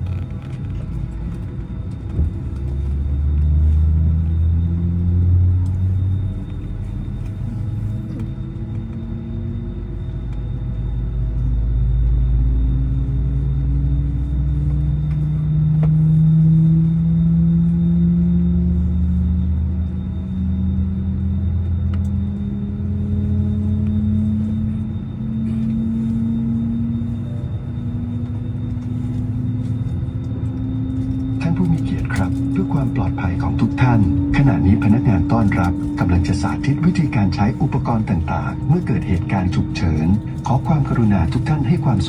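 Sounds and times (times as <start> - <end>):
jet engines rumbling: 0.0 - 42.0.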